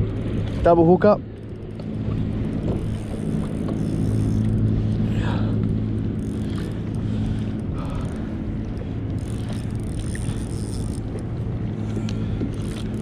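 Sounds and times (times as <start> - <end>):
boat motor humming: 0.0 - 13.0
water noise: 0.0 - 13.0
wind: 0.0 - 13.0.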